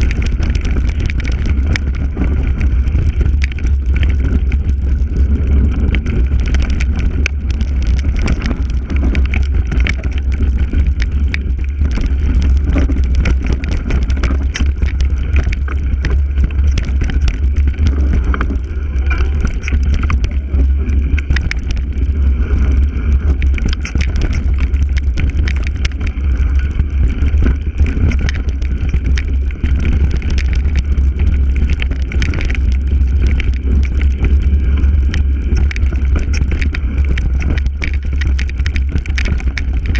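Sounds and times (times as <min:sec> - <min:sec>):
bike rattling clicks: 0:00.0 - 0:39.9
tyres on gravel: 0:00.0 - 0:39.9
wind rumble on microphone: 0:00.0 - 0:39.9.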